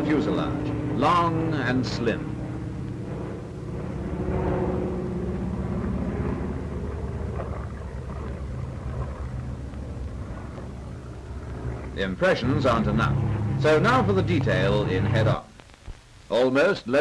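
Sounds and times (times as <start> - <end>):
aircraft piston engines droning: 0.0 - 15.5
film soundtrack hiss: 0.0 - 17.0.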